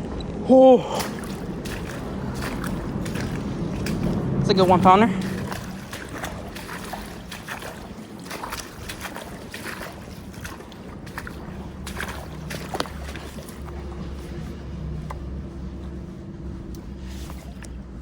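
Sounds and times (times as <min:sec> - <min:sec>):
wind on microphone: 0:00.0 - 0:17.6
low steady hum: 0:00.0 - 0:18.0
river water: 0:00.0 - 0:18.0.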